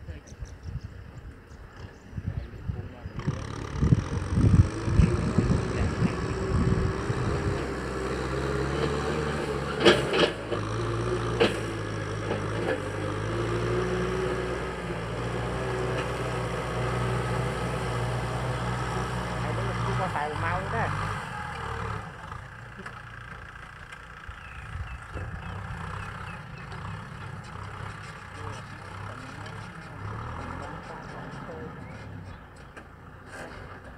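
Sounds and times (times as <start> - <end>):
tractor diesel engine droning: 1.6 - 33.9.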